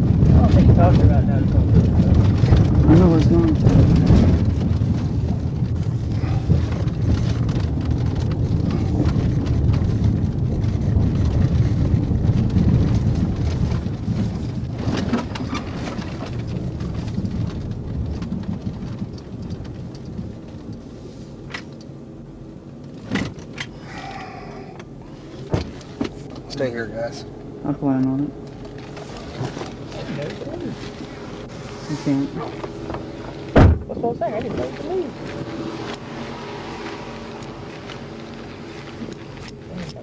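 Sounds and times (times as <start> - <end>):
car tyres rolling over gravel: 0.0 - 40.0.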